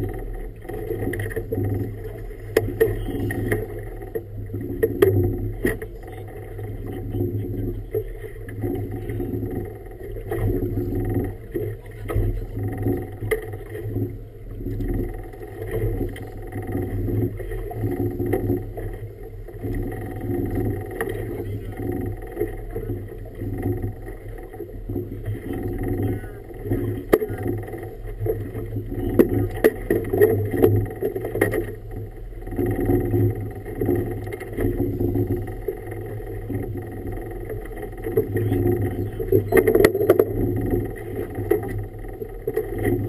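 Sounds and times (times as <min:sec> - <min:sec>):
river water slapping against hull: 0:00.0 - 0:43.0
steady low hum: 0:00.0 - 0:43.0.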